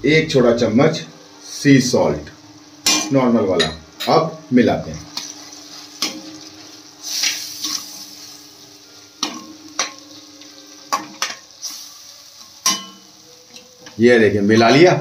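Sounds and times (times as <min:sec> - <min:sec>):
sizzle of frying in oil: 0:00.1 - 0:15.0.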